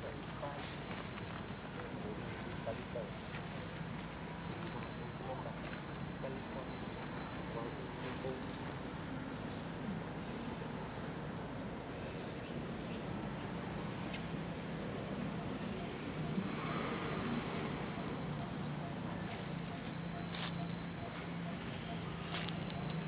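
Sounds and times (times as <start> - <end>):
bird chirping: 0.0 - 8.8, 11.6 - 23.0.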